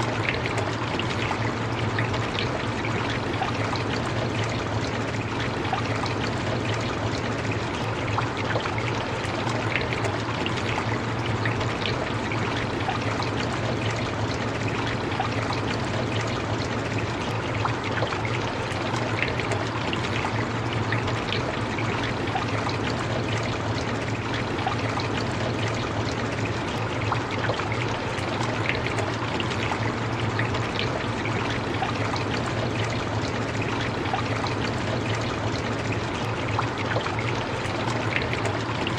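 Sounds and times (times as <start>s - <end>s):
constant low hum: 0.0s - 38.9s.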